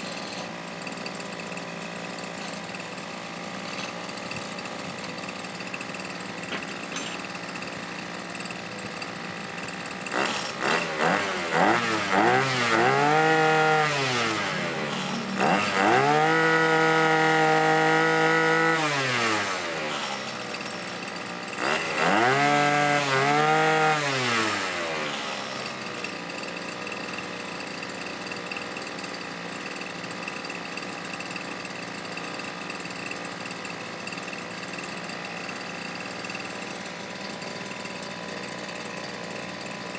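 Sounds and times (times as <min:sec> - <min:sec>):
brush cutter engine revving: 0:00.0 - 0:39.9.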